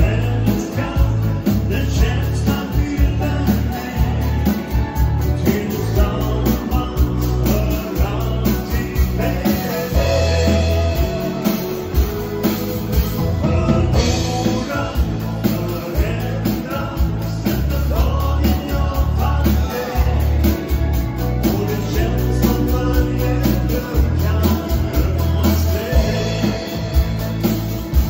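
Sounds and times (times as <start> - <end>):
bass: 0.0 - 28.0
drum kit steady beat: 0.0 - 28.0
electric guitar: 0.0 - 28.0
keyboard: 0.0 - 28.0
man singing: 0.0 - 28.0.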